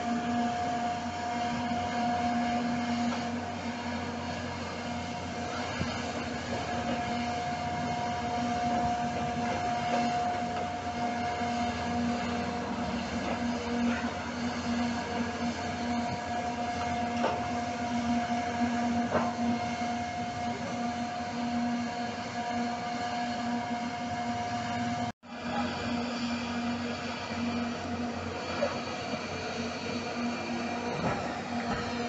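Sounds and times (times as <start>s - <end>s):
excavator engine droning: 0.0s - 32.0s
machinery whine: 0.0s - 32.0s.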